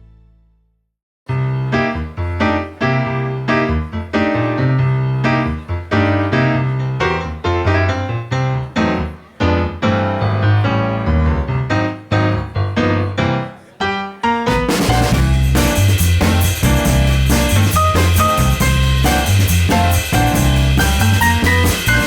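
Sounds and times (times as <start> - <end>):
piano music: 1.3 - 22.0.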